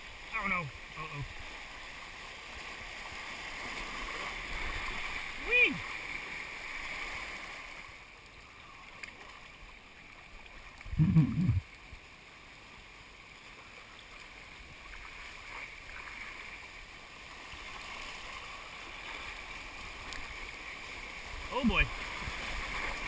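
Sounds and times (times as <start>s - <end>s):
water rushing over rocks: 0.0s - 11.9s, 13.4s - 23.0s.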